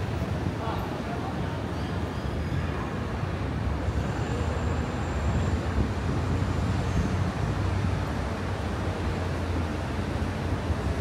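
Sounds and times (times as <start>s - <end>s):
low urban background rumble: 0.0s - 11.0s.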